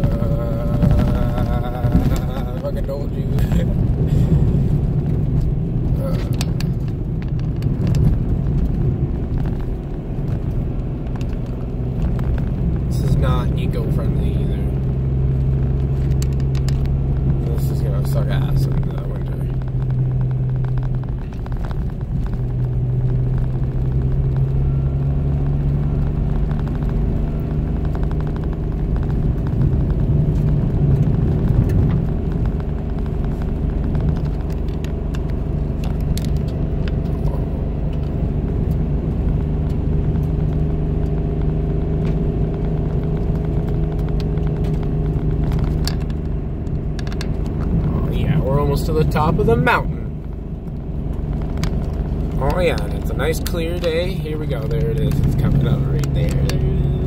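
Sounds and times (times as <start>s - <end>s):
car engine and tyre hum: 0.0s - 57.0s.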